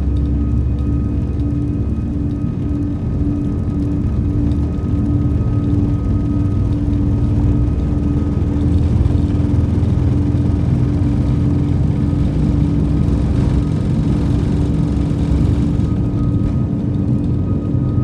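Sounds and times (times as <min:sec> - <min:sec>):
jet engines humming: 0:00.0 - 0:18.0
low rumble of taxiing aircraft: 0:00.0 - 0:18.0.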